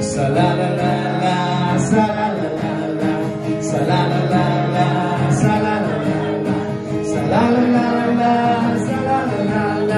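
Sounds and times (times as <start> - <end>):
man singing a carol: 0.0 - 9.9
strummed acoustic guitar: 0.0 - 9.9.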